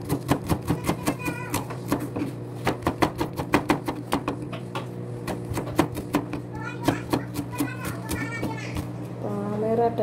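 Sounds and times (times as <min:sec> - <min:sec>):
knife chopping on plastic board: 0:00.0 - 0:08.9.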